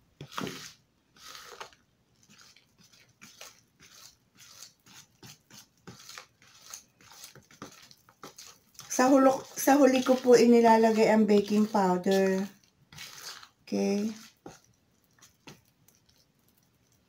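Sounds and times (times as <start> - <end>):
spoon scraping plastic bowl: 0.2 - 17.0.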